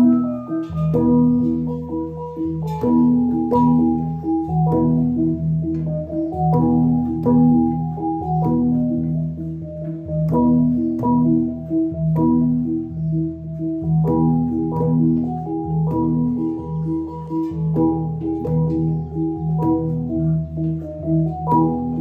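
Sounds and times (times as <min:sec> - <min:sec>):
gong ensemble playing: 0:00.0 - 0:22.0.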